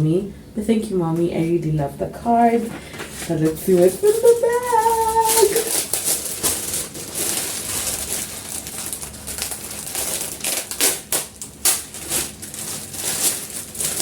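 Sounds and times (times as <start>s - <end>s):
paper rustling and crinkling: 2.7s - 14.0s.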